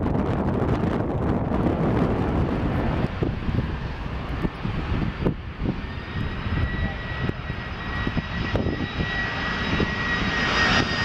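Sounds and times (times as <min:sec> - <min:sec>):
jet engines low rumble: 0:00.0 - 0:11.0.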